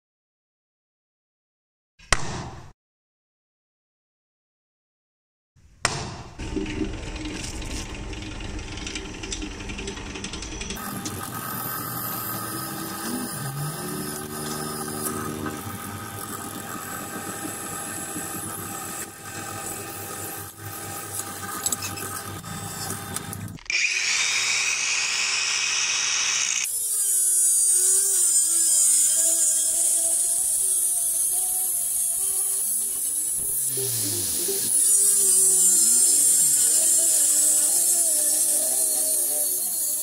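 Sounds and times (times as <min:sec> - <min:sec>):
angle grinder cutting steel: 0:06.4 - 0:40.0
drill press boring steel: 0:06.4 - 0:40.0.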